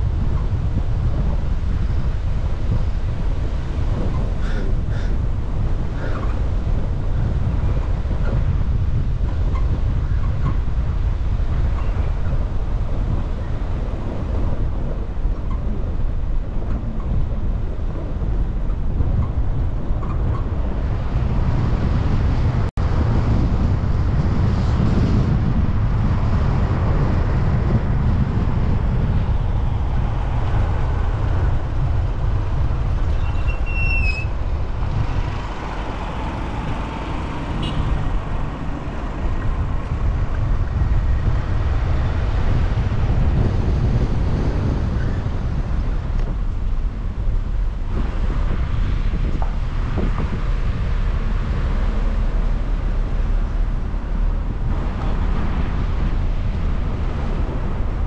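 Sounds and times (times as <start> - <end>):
road traffic: 0.0 - 58.0
wind on microphone: 0.0 - 58.0.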